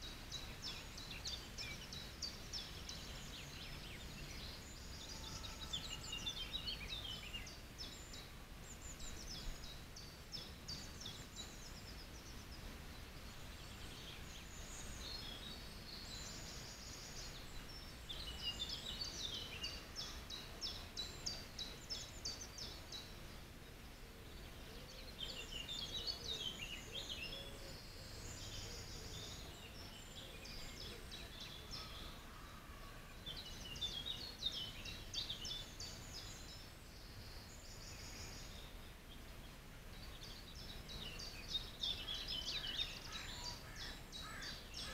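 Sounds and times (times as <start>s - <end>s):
songbirds chirping and trilling: 0.0s - 44.9s
steady low hiss: 0.0s - 44.9s.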